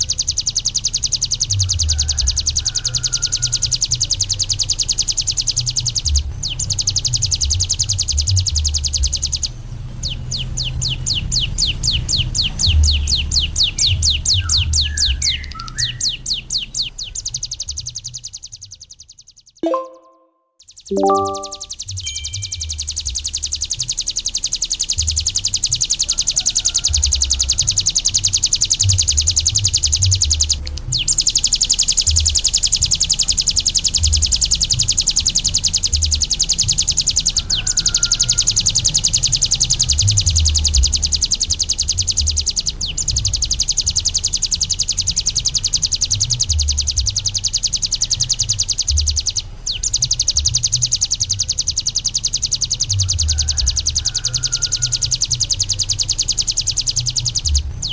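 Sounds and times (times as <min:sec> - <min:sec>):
bird singing rapid high-pitched trill: 0:00.0 - 0:57.9.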